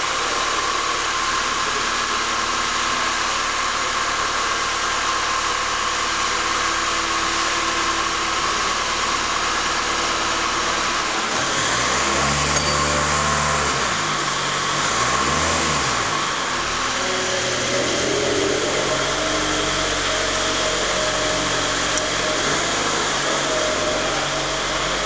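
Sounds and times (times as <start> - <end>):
forklift truck engine running: 0.0 - 25.0.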